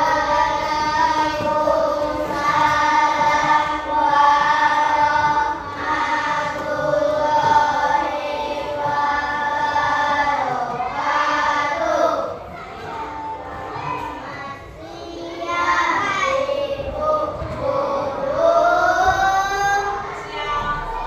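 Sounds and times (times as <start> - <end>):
children singing in unison: 0.0 - 21.0.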